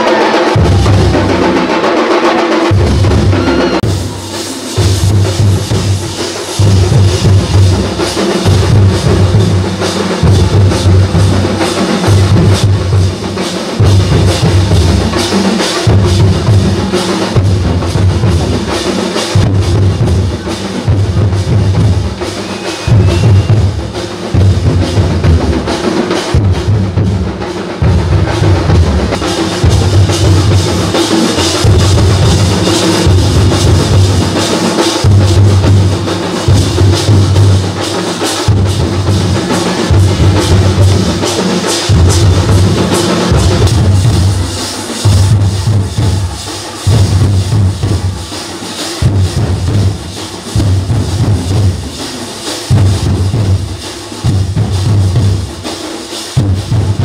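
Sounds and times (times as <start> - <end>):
deep drum beat: 0.0 - 55.7, 56.4 - 57.0
busy percussion: 0.0 - 57.0.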